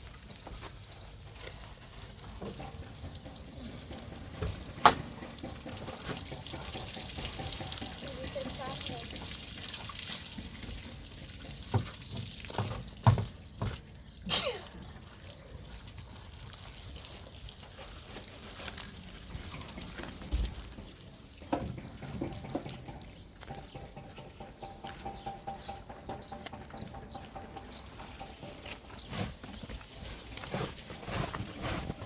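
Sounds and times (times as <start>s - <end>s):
water splashing and trickling: 0.0s - 32.0s.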